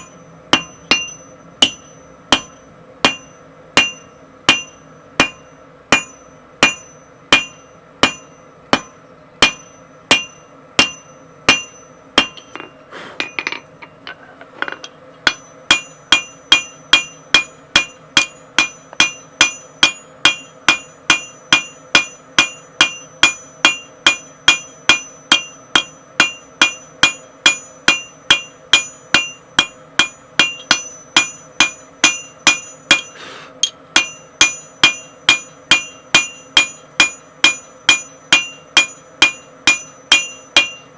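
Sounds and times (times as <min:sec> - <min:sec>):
hammer striking steel on anvil: 0:00.0 - 0:40.9.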